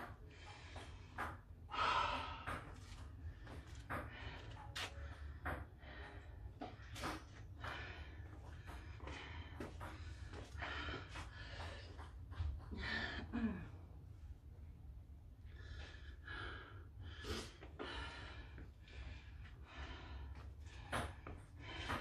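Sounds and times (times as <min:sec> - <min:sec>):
person breathing heavily: 0:00.0 - 0:13.9, 0:15.4 - 0:22.0.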